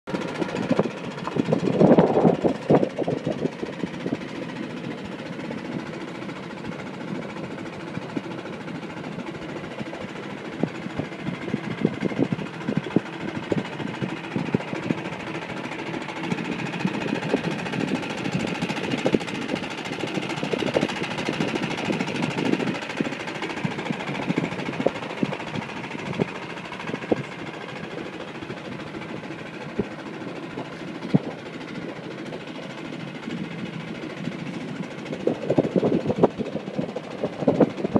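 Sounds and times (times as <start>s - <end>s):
boat engine droning: 0.0s - 37.9s.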